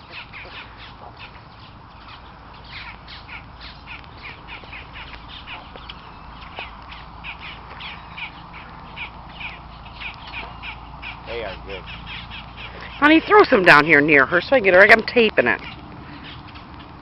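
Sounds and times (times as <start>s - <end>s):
birds calling sharply: 0.0s - 17.0s.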